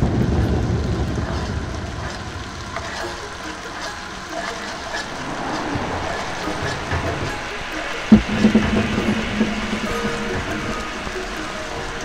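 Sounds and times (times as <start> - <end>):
bike tyres rolling on concrete: 0.0 - 12.0.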